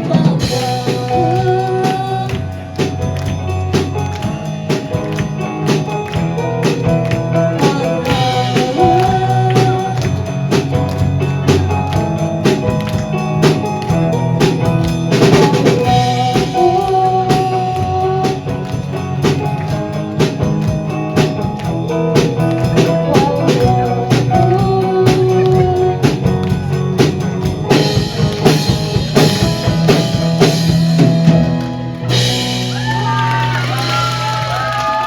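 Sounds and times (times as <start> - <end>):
drum kit beat: 0.0 - 35.0
live rock band playing: 0.0 - 35.0.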